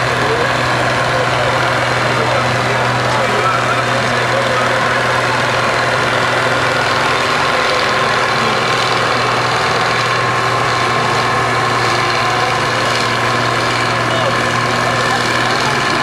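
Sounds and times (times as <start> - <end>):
tractor diesel engine running hard: 0.0 - 16.0.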